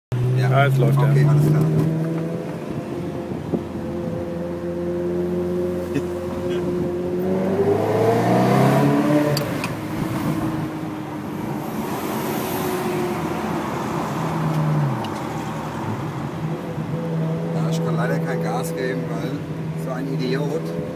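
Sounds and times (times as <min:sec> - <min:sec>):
car engine from inside cabin: 0:00.3 - 0:20.9.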